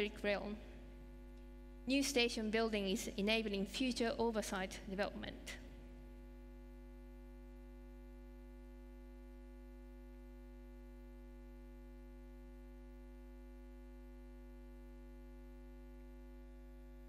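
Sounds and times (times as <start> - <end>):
low electrical hum with buzz: 0.0 - 17.0.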